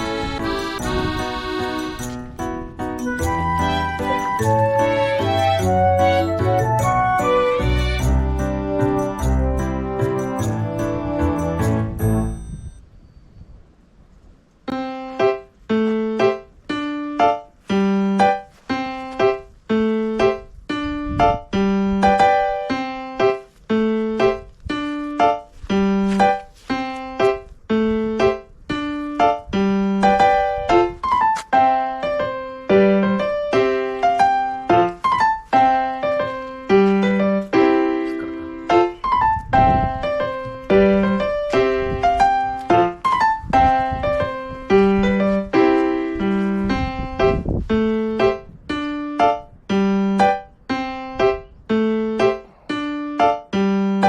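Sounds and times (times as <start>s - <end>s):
piano melody of single notes: 0.0s - 12.9s, 14.7s - 54.0s.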